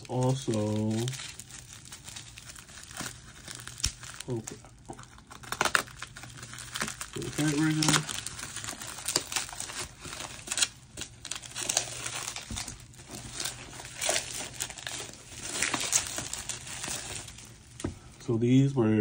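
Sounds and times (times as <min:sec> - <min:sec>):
plastic wrapping crinkling and tearing: 0:00.0 - 0:18.7.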